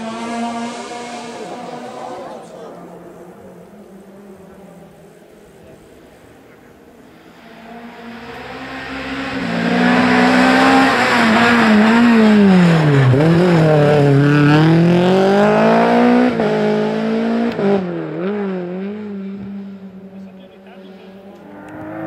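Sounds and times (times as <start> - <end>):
rally car engine passing: 0.0 - 22.0.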